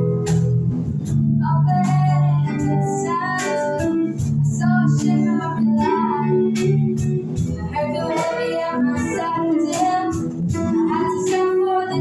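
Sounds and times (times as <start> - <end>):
bass guitar: 0.0 - 12.0
girl singing: 1.4 - 12.0.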